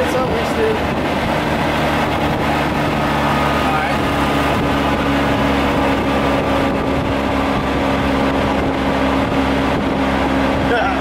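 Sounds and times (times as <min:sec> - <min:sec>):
golf cart motor hum: 0:00.0 - 0:11.0
road and wind noise: 0:00.0 - 0:11.0.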